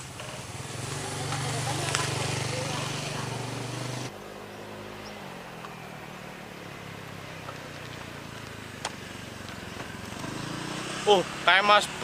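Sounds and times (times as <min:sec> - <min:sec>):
distant motorcycle engine hum: 0:00.0 - 0:12.0.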